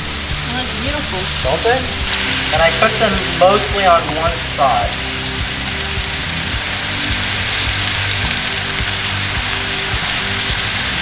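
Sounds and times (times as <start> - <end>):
background music: 0.0 - 11.0
scallops sizzling in a pan: 0.0 - 11.0.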